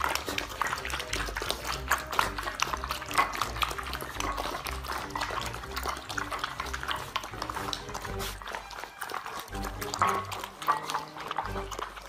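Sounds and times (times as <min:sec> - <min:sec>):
puppies lapping and smacking: 0:00.0 - 0:12.0.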